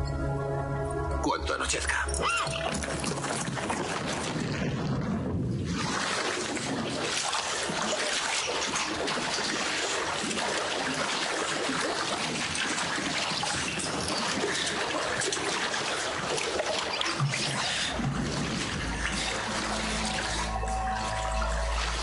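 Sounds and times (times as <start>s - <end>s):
water trickling and splashing: 2.0s - 22.0s.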